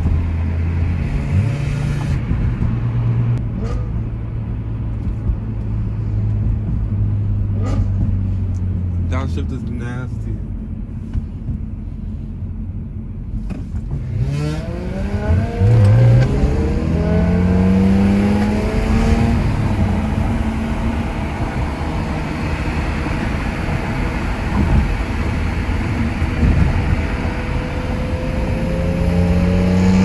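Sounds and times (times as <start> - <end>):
car engine accelerating hard: 0.0 - 12.2, 12.8 - 30.0.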